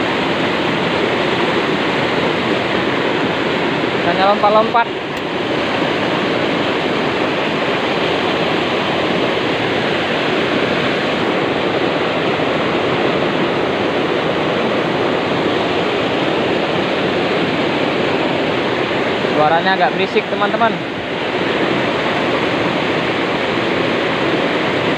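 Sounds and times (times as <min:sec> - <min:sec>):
river water rushing over ledge: 0:00.0 - 0:24.9.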